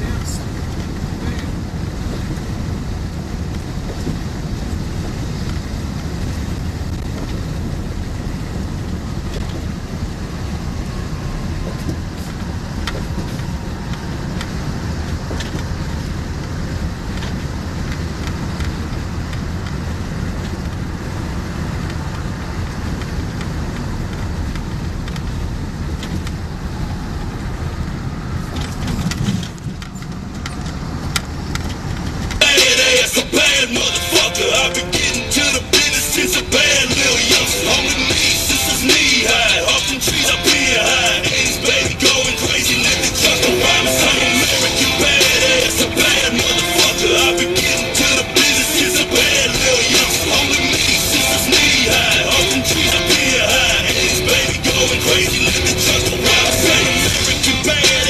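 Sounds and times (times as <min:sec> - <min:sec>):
air noise through open window: 0:00.0 - 0:58.0
truck engine and road noise: 0:00.0 - 0:58.0.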